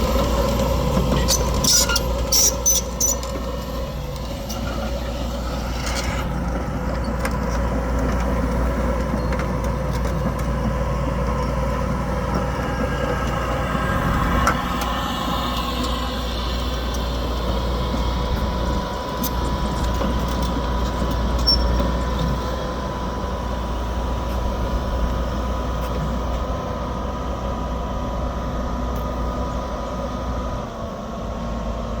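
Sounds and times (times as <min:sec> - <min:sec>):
diesel engine rumbling: 0:00.0 - 0:32.0.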